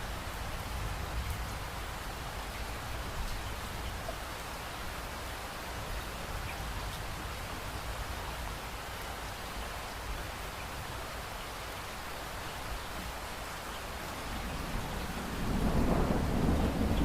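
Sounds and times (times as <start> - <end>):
rain on a window: 0.0 - 17.0.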